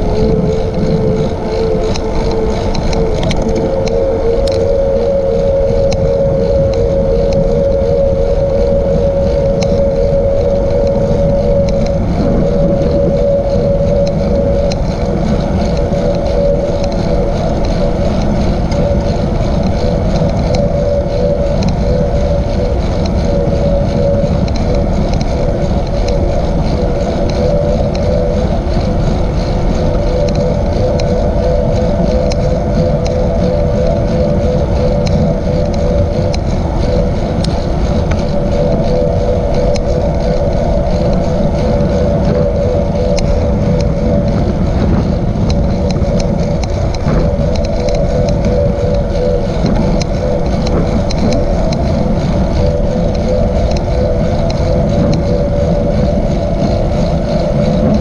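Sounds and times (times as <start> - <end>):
bike tyre rumble on asphalt: 0.0 - 58.0
steady whine: 0.0 - 58.0
wind buffeting microphone: 0.0 - 58.0.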